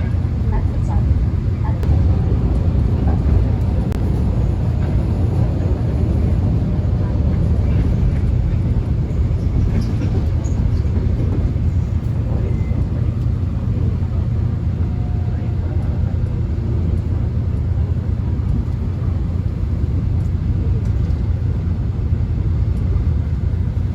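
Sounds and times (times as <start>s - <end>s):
subway train low rumble: 0.0s - 23.9s.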